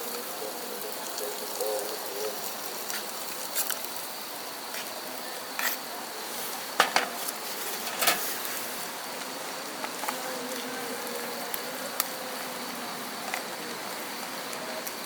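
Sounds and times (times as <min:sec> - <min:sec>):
steady hiss: 0:00.0 - 0:15.0
high insect whine: 0:00.1 - 0:15.0.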